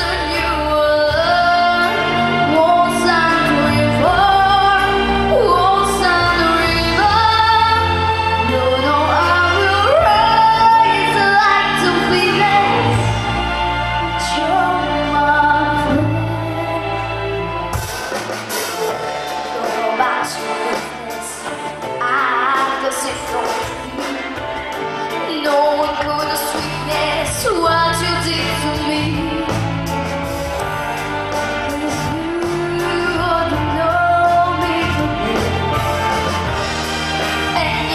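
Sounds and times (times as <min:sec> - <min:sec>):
woman singing pop song: 0:00.0 - 0:17.7, 0:19.3 - 0:30.0, 0:31.4 - 0:36.5, 0:37.3 - 0:37.9
backing music: 0:00.0 - 0:37.9
instrumental accompaniment: 0:00.0 - 0:37.9.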